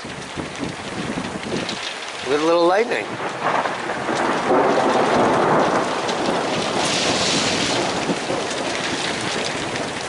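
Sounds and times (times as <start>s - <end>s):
snow pellets ticking on ground: 0.0s - 10.0s
thunder rumble: 0.0s - 10.0s.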